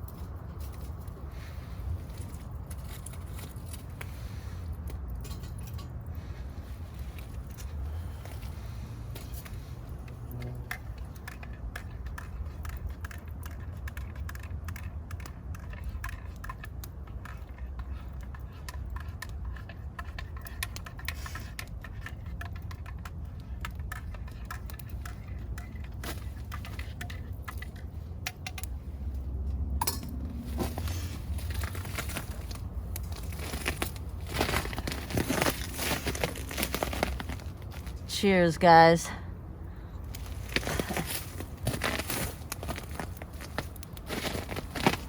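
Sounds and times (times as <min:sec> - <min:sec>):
twig fire crackling: 0:00.0 - 0:45.0.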